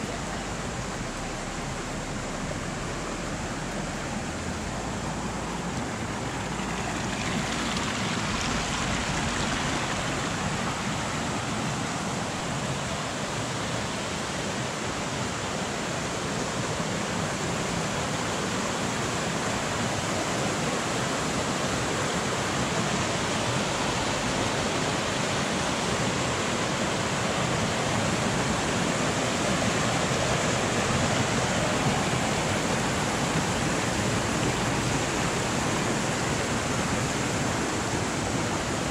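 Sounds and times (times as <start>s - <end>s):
river flowing over cascades: 0.0s - 38.9s.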